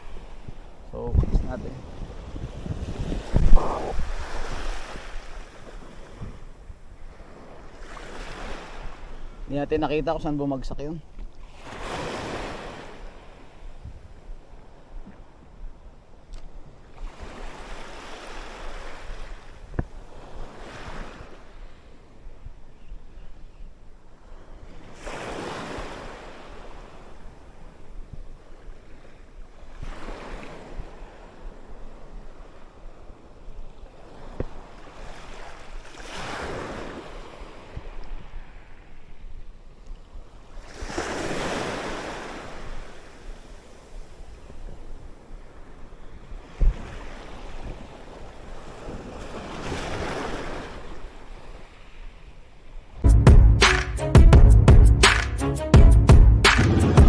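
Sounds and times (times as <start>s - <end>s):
wind on microphone: 0.0s - 10.0s, 10.8s - 52.1s
waves washing in: 0.0s - 22.4s, 24.1s - 39.6s, 40.2s - 52.6s.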